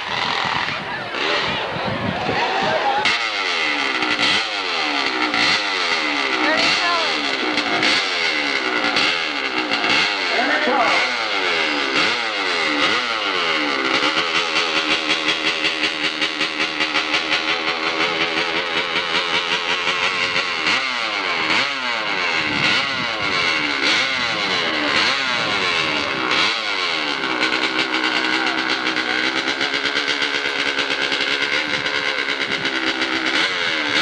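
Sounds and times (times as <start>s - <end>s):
motorcycle engine running hard: 0.0s - 34.0s.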